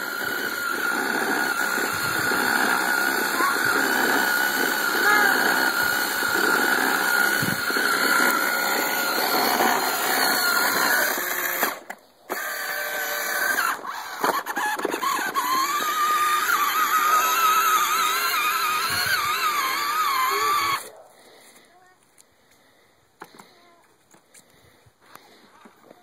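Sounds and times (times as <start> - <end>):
toy electric motor whining: 0.0 - 20.9.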